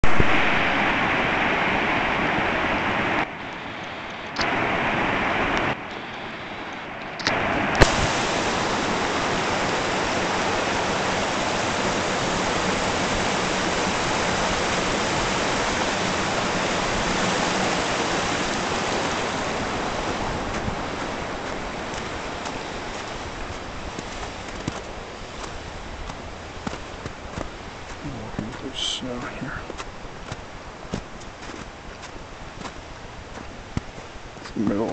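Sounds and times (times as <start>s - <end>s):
stream splashing over rocks: 4.3s - 5.8s, 7.2s - 34.9s.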